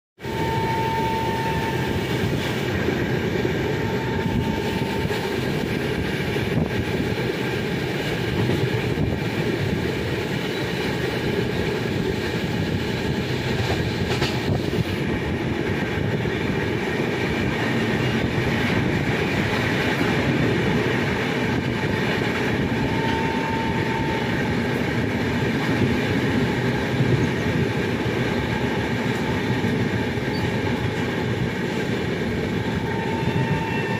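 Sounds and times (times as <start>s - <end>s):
train wheels rumbling on rails: 0.2s - 33.9s.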